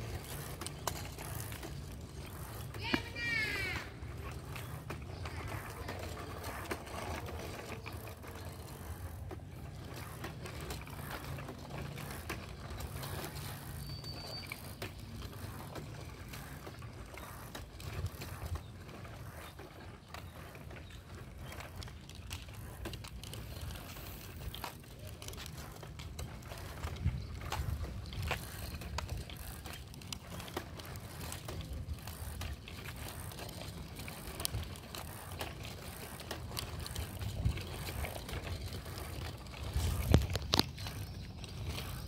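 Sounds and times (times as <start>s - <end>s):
bicycle tyres rolling on pavement: 0.0s - 42.0s.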